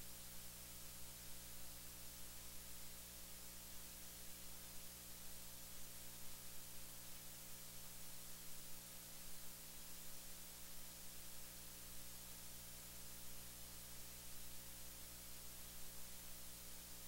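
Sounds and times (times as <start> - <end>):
faint steady hiss: 0.0 - 17.0
low electrical hum: 0.0 - 17.0.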